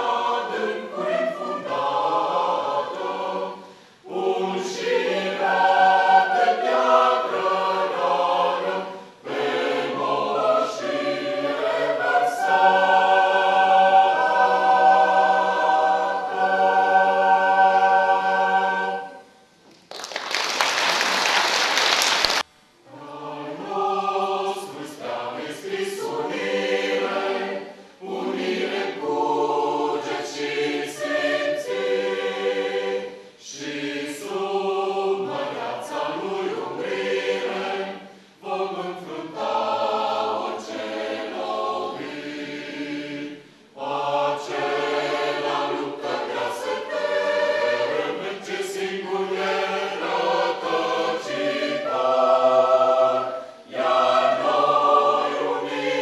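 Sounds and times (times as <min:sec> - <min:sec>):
mixed choir singing: 0:00.0 - 0:19.4, 0:21.0 - 0:56.0.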